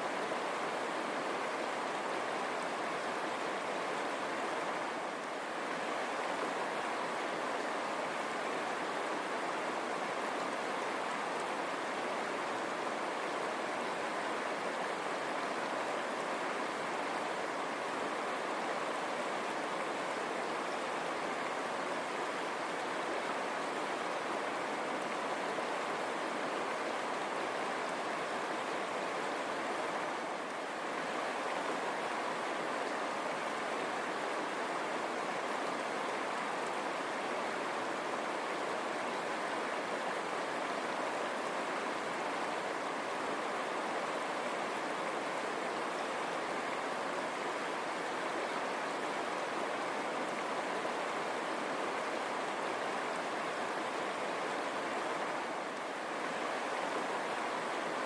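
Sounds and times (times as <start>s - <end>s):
river water over stones: 0.0s - 58.0s.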